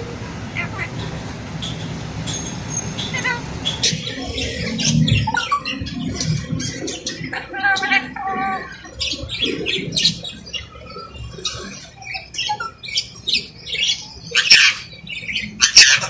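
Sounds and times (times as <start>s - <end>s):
parakeet squawking and chattering: 0.0s - 16.0s.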